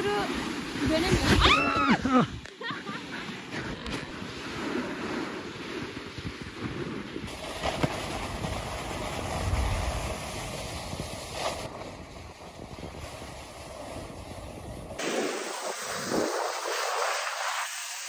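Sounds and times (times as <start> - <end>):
wind buffeting microphone: 0.0 - 2.5, 3.5 - 16.7
snowboard sliding over snow: 2.9 - 18.0.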